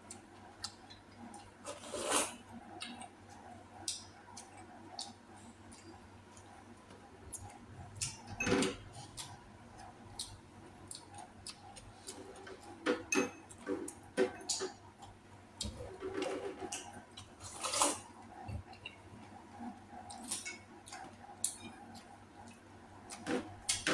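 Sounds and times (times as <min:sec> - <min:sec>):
chewing and mouth sounds: 0:00.0 - 0:01.8, 0:02.4 - 0:12.8, 0:13.5 - 0:23.8.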